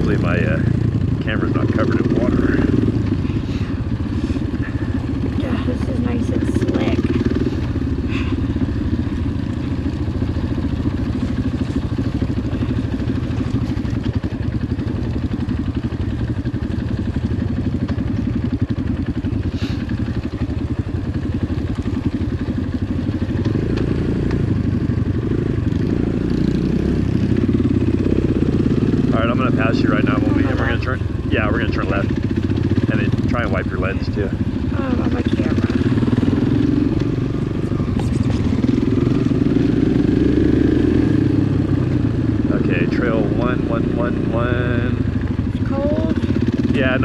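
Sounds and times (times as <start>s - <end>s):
dirt bike engine idling: 0.0s - 47.0s.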